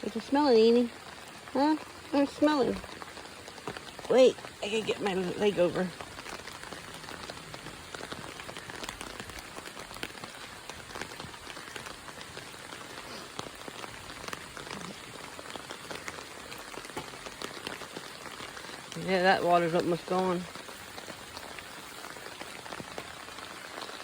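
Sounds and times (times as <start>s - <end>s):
raindrops ticking on umbrella: 0.0s - 24.0s
steady rain: 0.0s - 24.0s.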